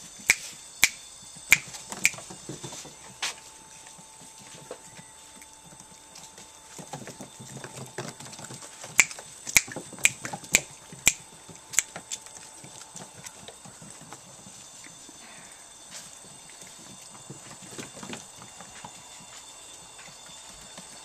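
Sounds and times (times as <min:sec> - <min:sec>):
puppies scuffling: 0:01.6 - 0:15.1, 0:15.9 - 0:21.0.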